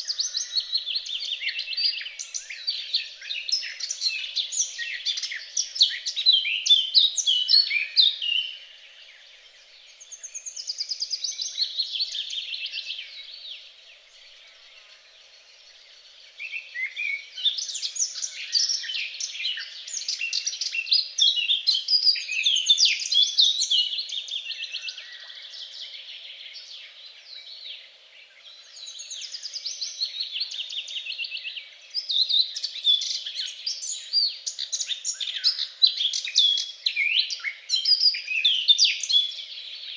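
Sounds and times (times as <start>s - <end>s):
songbirds warbling: 0.0s - 39.9s.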